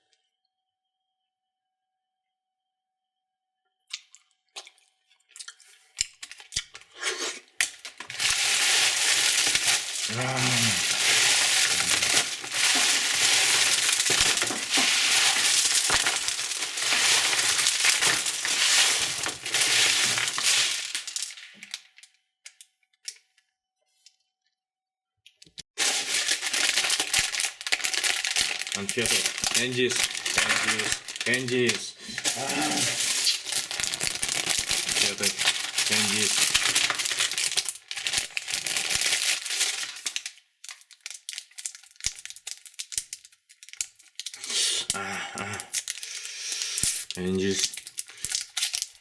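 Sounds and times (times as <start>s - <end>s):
plastic packaging crinkling and tearing: 5.9s - 22.1s, 25.8s - 49.0s.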